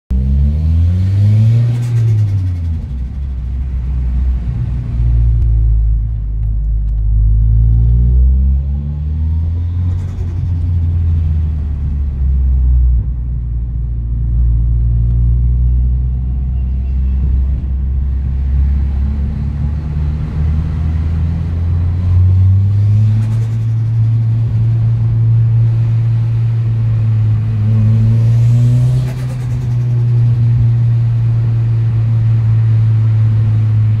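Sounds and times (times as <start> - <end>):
car engine revving: 0.1 - 13.2, 17.2 - 34.0.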